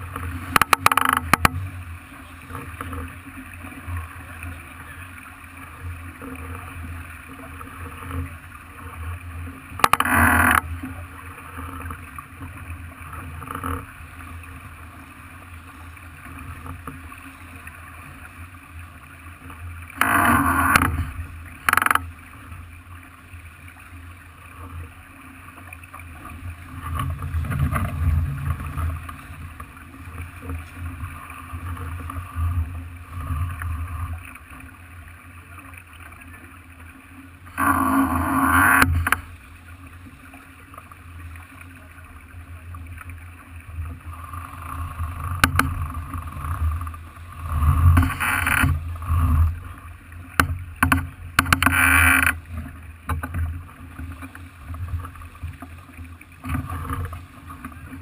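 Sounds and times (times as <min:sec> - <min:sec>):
water rushing along hull: 0:00.0 - 0:58.0
wind: 0:00.0 - 0:58.0.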